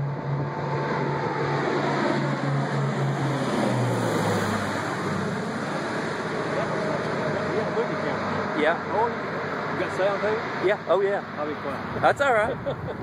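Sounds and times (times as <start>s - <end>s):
propeller aircraft droning overhead: 0.0s - 13.0s.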